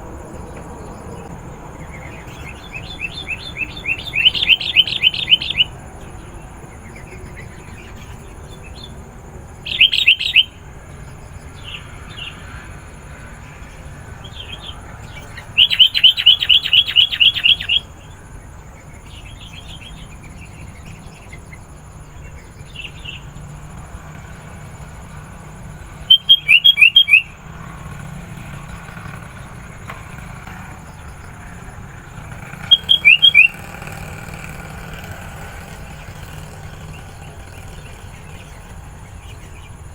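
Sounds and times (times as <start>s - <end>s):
bird chirping in rapid bursts: 0.9s - 39.9s.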